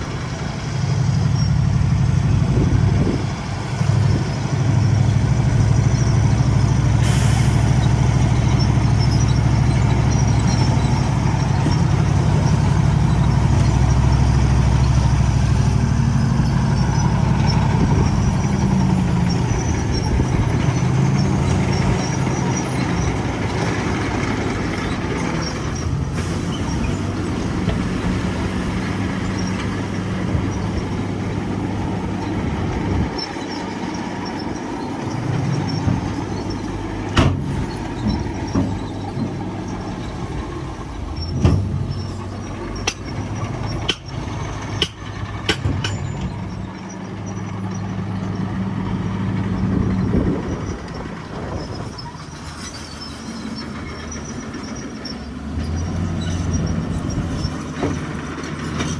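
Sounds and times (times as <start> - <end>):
heavy diesel engine under load: 0.0 - 58.9.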